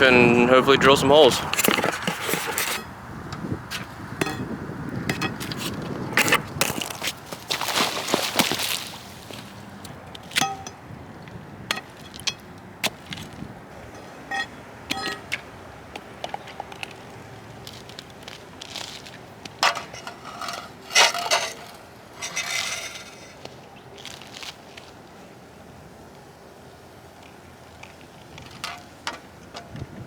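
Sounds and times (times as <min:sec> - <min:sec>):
crunching footsteps: 0:01.2 - 0:26.2.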